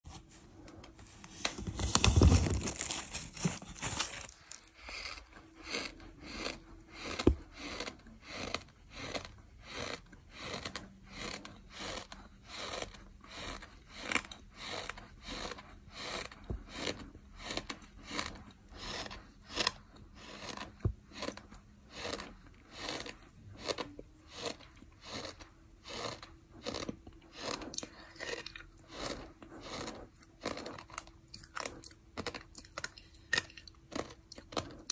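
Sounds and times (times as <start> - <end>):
person chewing gritty sand: 2.2 - 34.9.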